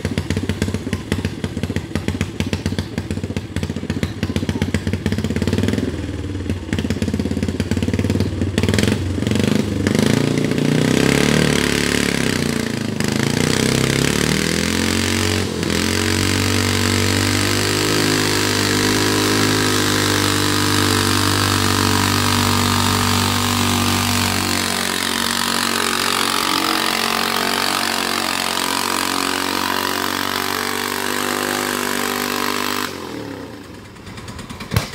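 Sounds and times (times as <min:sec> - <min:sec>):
tractor engine revving: 0:00.0 - 0:34.9.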